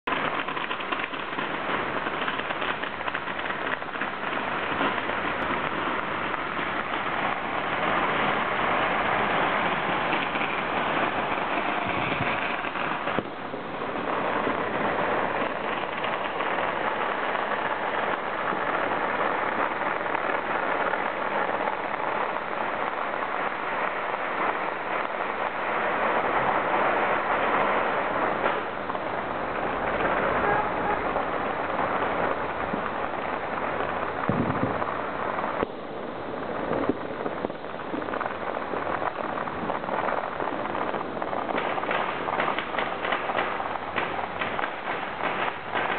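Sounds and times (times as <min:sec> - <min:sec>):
firecrackers crackling: 0:00.0 - 0:45.9.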